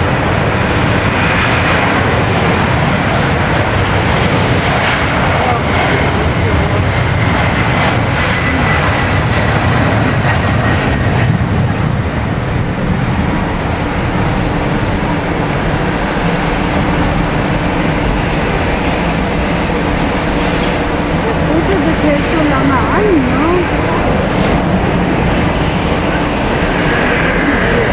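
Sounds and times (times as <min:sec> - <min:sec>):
jet engines rumbling at takeoff: 0:00.0 - 0:27.9.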